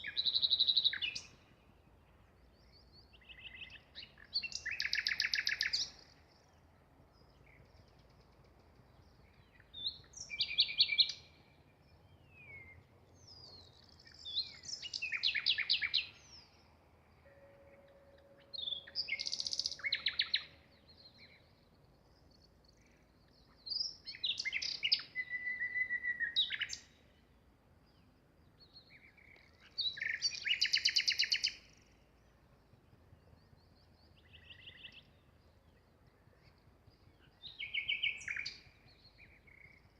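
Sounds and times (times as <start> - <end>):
nightingale singing: 0.0 - 27.4, 28.0 - 32.3, 33.3 - 39.9.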